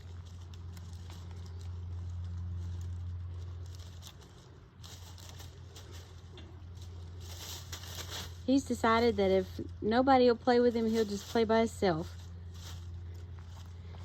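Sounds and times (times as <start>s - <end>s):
light rustling and pattering: 0.0s - 9.8s, 10.7s - 14.0s
steady low hum: 0.0s - 14.0s.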